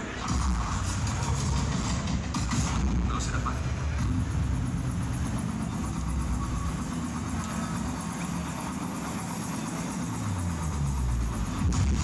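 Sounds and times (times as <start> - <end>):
amplified music bass rumble: 0.0 - 12.0.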